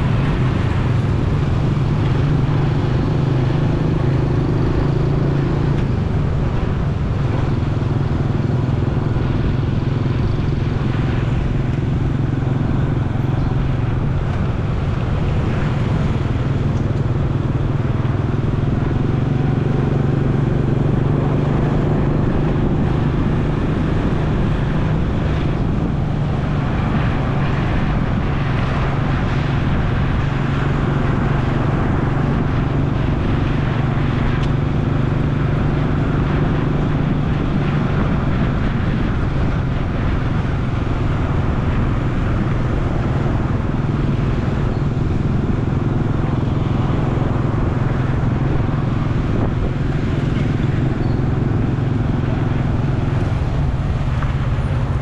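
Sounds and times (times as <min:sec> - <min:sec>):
motorcycle engine running: 0:00.0 - 0:55.0
road noise rush: 0:00.0 - 0:55.0.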